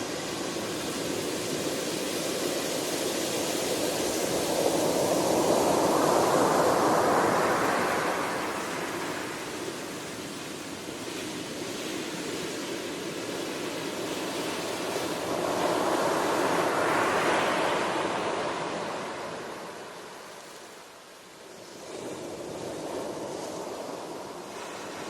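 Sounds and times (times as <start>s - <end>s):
ocean waves on a shore: 0.0s - 25.0s.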